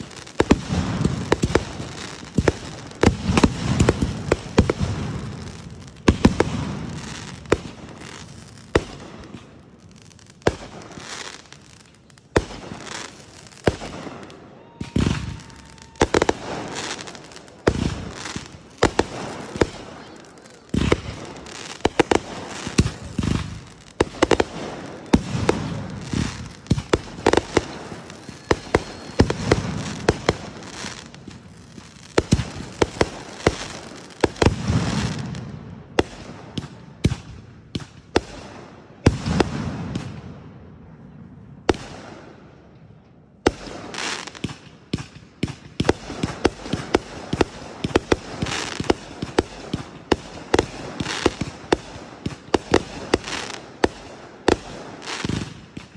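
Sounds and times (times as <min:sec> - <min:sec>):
fireworks booming: 0:00.0 - 0:55.9
fireworks crackling: 0:00.0 - 0:55.9.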